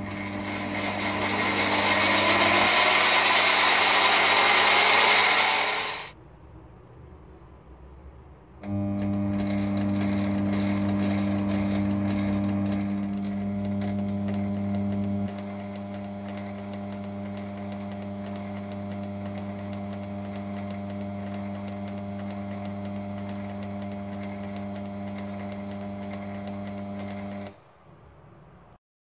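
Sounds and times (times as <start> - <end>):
lathe motor hum: 0.0 - 6.2, 8.6 - 27.6.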